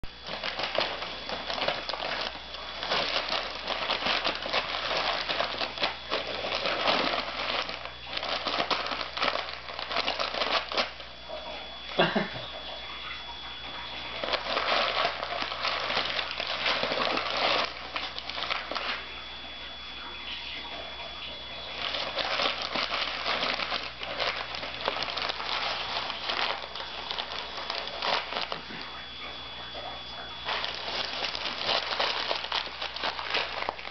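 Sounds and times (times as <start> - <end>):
paper bag crinkling: 0.0 - 12.1, 13.0 - 33.9.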